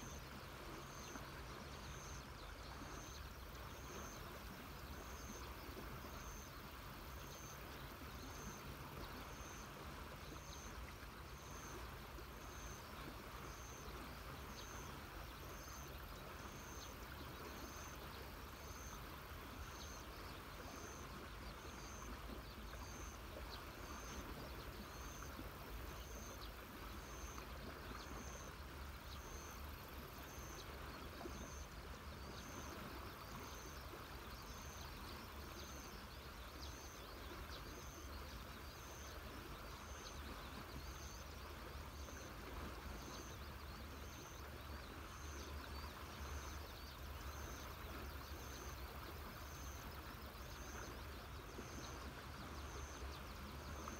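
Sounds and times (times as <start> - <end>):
faint river rushing: 0.0 - 53.9.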